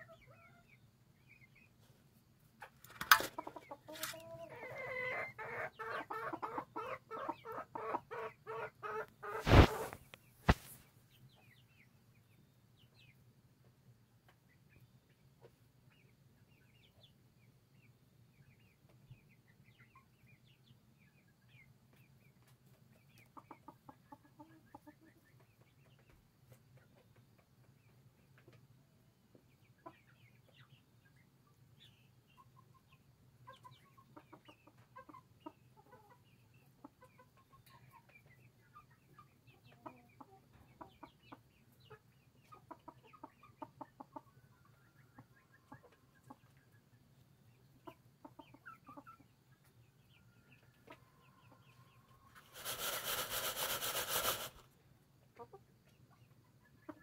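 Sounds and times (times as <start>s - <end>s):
chickens clucking quietly: 0.0s - 57.0s.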